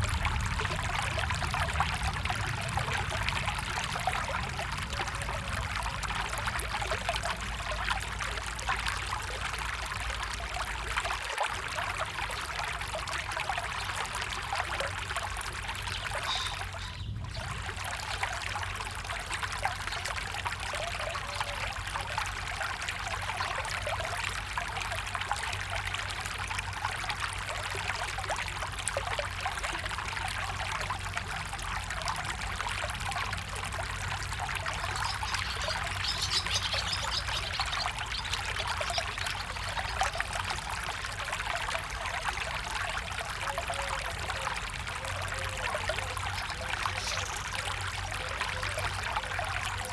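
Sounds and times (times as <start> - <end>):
stream water trickling: 0.0 - 49.9.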